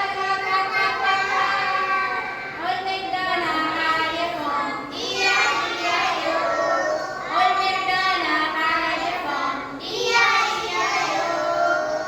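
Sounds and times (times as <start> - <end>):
children singing: 0.0 - 2.6, 4.7 - 12.0.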